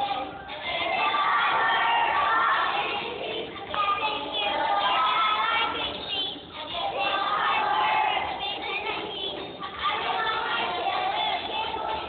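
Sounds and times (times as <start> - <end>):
accompanying music: 0.0 - 12.0
children singing together: 0.0 - 12.0.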